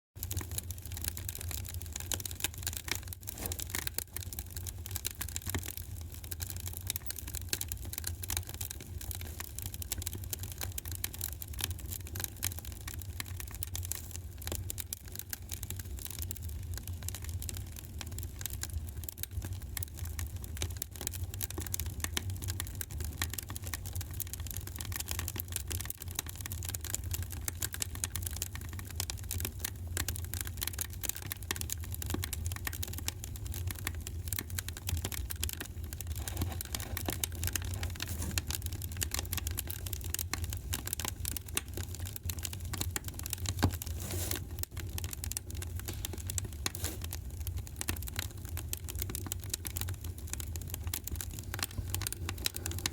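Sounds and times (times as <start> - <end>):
wood fire crackling: 0.2 - 52.9.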